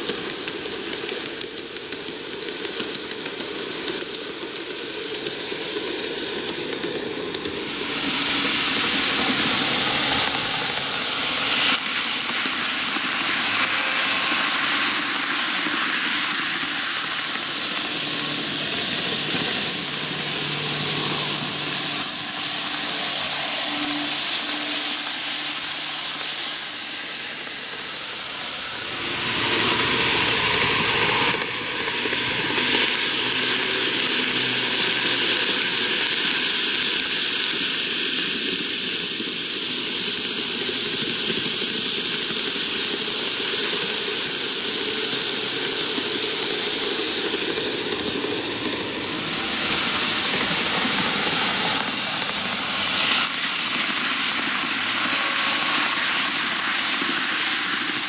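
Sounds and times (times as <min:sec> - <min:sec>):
model train wheels rolling on rails: 0:00.0 - 0:58.0.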